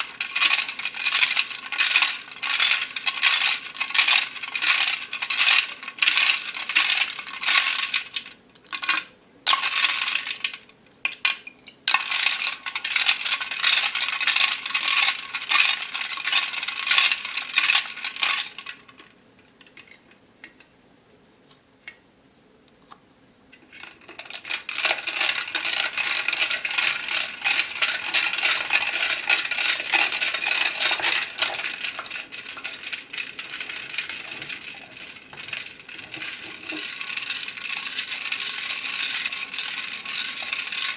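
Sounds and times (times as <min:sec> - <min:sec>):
plastic beads clicking and rattling: 0:00.0 - 0:19.0, 0:23.8 - 0:40.9.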